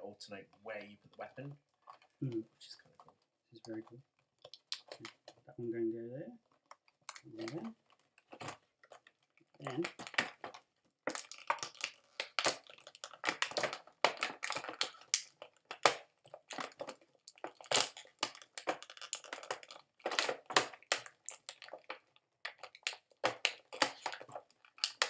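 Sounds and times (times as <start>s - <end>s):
plastic toy crackles and clicks: 2.9s - 5.4s, 6.5s - 25.0s.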